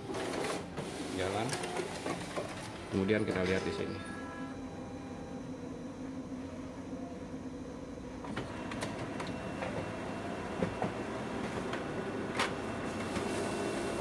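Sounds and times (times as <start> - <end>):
printer paper feed whirring: 0.0 - 14.0.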